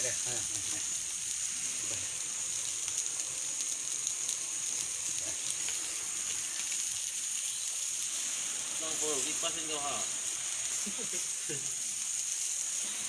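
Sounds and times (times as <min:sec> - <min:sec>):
charcoal crackles: 0:00.0 - 0:13.0
skewers sizzling on a grill: 0:00.0 - 0:13.0.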